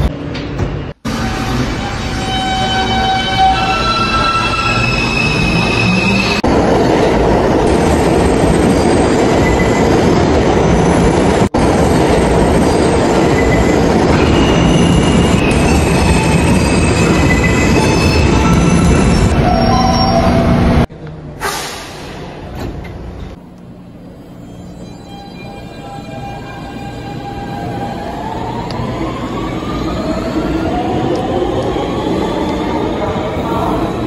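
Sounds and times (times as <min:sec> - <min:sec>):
subway train rumbling on rails: 0:00.0 - 0:34.0.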